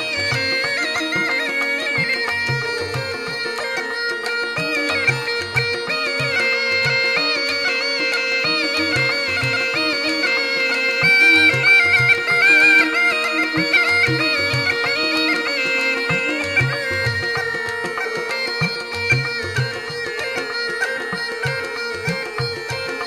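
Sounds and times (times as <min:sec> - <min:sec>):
double pipe melody with drone: 0:00.0 - 0:23.0.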